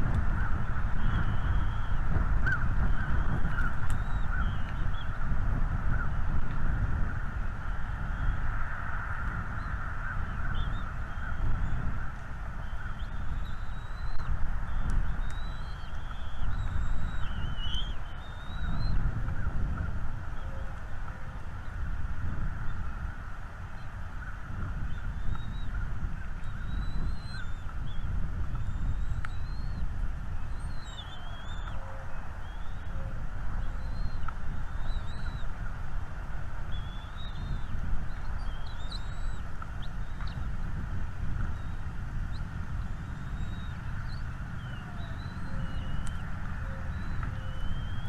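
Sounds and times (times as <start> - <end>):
birds calling: 0.0 - 5.3, 5.9 - 35.7, 36.6 - 40.5, 41.4 - 48.0
low rumble and hiss: 0.0 - 48.0.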